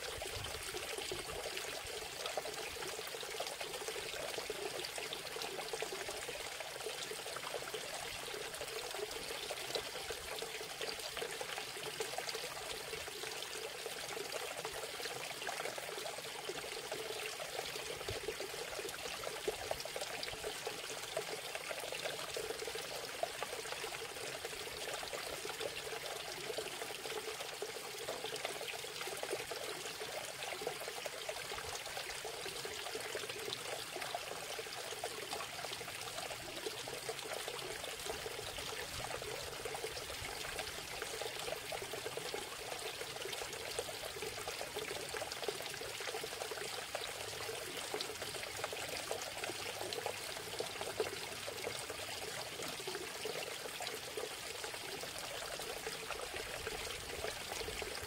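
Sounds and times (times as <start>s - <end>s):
water trickling and splashing over rocks: 0.0s - 58.0s.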